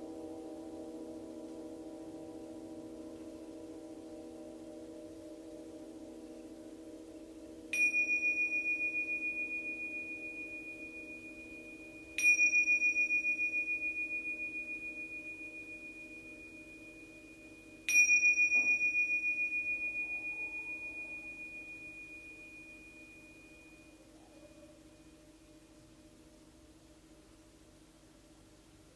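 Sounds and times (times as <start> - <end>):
small hand cymbals ringing: 0.0 - 26.3
low steady hum: 0.0 - 28.9.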